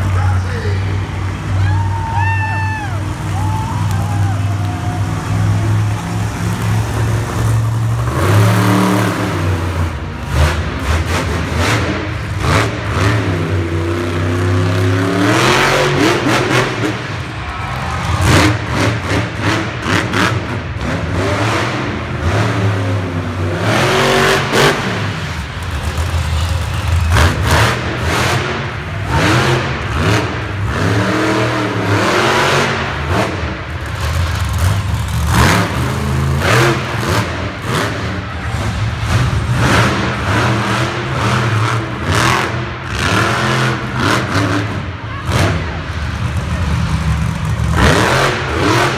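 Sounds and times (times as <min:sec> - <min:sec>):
monster truck engine revving: 0:00.0 - 0:48.9.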